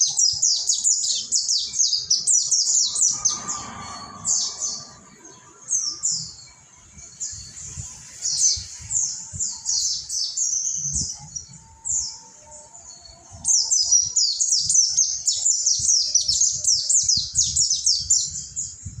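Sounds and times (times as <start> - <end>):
bird chirping: 0.0 - 18.9.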